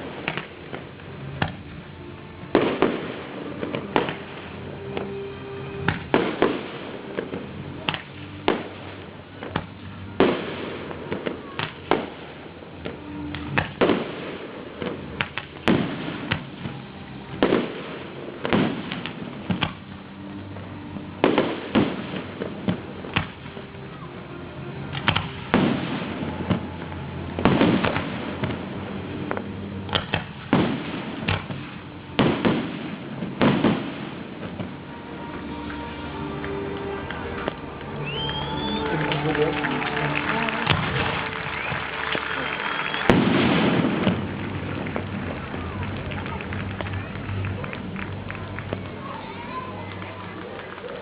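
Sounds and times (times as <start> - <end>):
fireworks bursting with bangs: 0.0 - 1.8, 2.4 - 24.2, 24.8 - 51.0.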